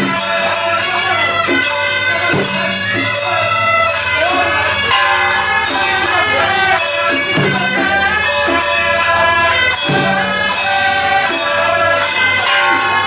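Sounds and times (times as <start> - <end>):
cymbals clashing: 0.0 - 13.0
reed horns playing wailing melody: 0.0 - 13.0.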